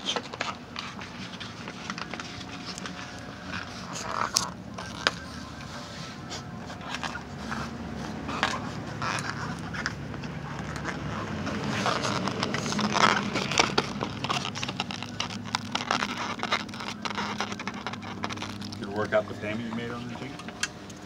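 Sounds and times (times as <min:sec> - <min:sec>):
dog chewing plastic bottle: 0:00.0 - 0:05.6, 0:06.2 - 0:20.3.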